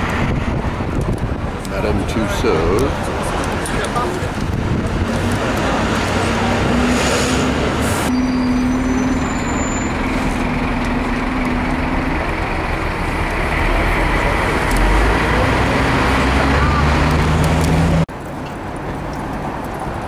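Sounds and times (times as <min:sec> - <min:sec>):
heavy vehicle engine humming: 0:00.0 - 0:18.1
road traffic rumble: 0:00.0 - 0:20.0.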